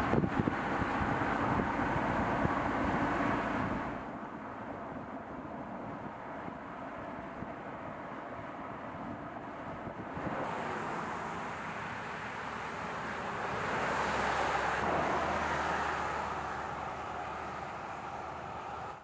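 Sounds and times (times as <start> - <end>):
road and wind noise of vehicle: 0.0 - 19.0.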